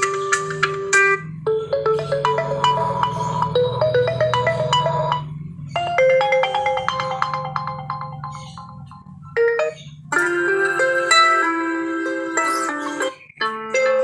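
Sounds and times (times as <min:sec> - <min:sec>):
phone alarm ringtone melodies: 0:00.0 - 0:13.2.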